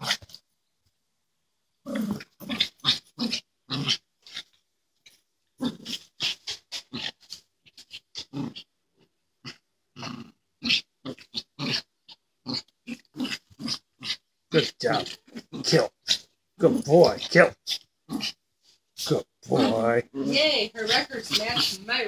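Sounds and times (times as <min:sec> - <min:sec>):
small dog play-growling: 0:00.0 - 0:00.4, 0:01.8 - 0:04.6, 0:05.6 - 0:08.7, 0:09.4 - 0:18.4, 0:19.0 - 0:21.9.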